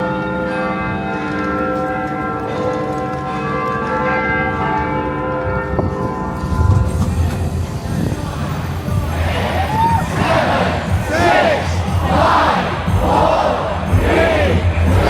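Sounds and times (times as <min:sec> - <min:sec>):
bells ringing: 0:00.0 - 0:15.0.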